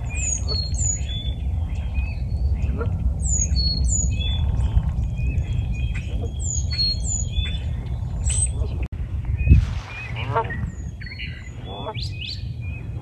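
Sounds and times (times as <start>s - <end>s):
low rumble: 0.0s - 13.0s
small birds chirping: 0.0s - 13.0s.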